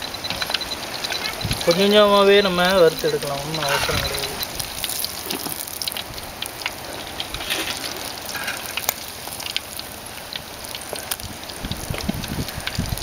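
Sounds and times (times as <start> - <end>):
meat deep-frying in hot oil: 0.0 - 13.0.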